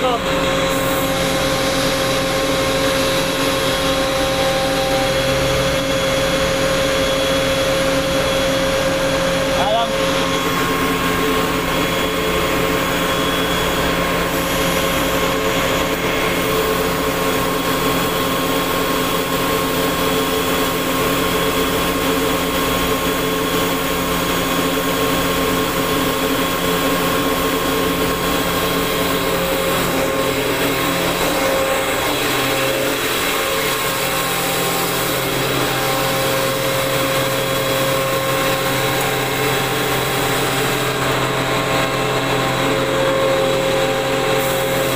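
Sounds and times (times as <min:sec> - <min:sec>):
air compressor droning: 0:00.0 - 0:44.9.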